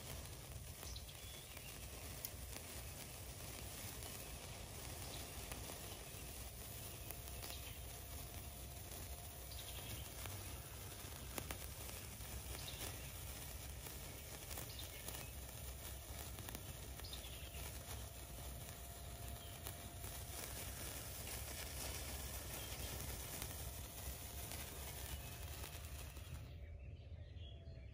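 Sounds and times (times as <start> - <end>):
sparkler fizzing and crackling: 0.0 - 26.6.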